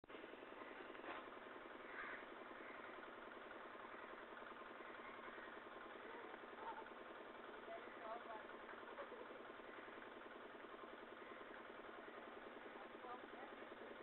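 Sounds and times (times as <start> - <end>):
faint engine throbbing: 0.1 - 14.0.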